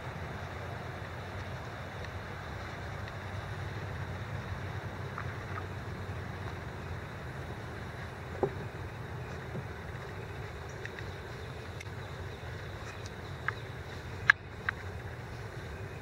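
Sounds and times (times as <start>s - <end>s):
outdoor rumble and hiss: 0.0s - 16.0s.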